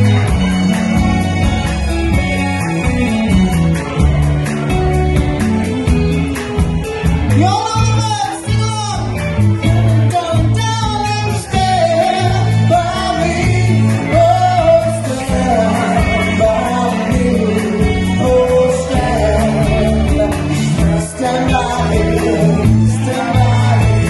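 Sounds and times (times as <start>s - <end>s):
repeating bass line: 0.0s - 24.0s
soul band playing: 0.0s - 24.0s.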